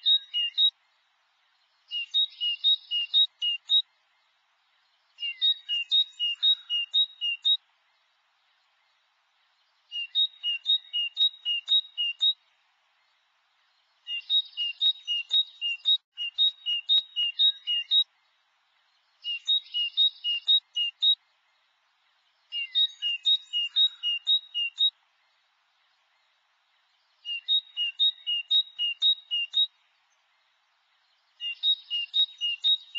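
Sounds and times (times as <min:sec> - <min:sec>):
great tit singing: 0:00.0 - 0:00.8, 0:01.7 - 0:08.0, 0:09.6 - 0:21.6, 0:22.2 - 0:32.9.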